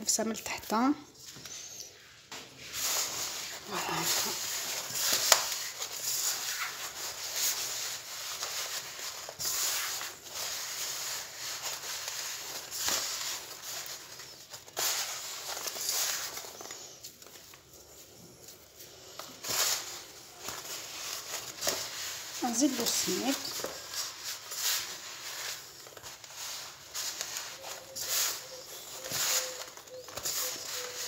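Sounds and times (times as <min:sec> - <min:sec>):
hands rubbing mixture in metal pan: 0:02.4 - 0:16.7, 0:18.5 - 0:31.0.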